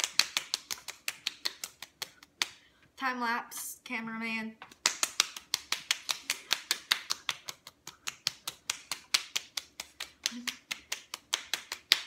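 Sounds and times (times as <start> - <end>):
hands slapping cheeks: 0.0 - 2.7, 4.6 - 12.0.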